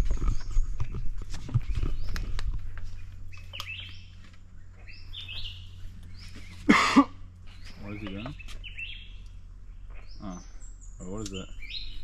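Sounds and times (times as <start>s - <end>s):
birds chirping: 0.0s - 12.0s
low steady hum: 0.0s - 12.0s.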